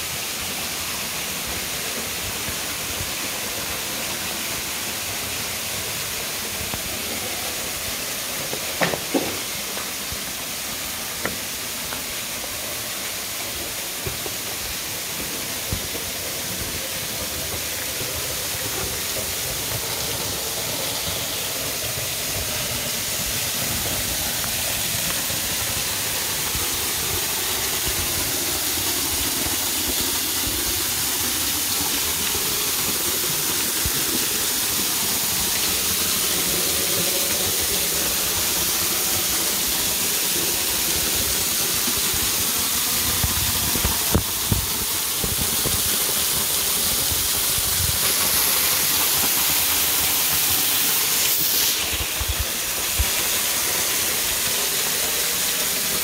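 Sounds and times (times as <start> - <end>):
waterfall splashing onto rocks: 0.0 - 56.0.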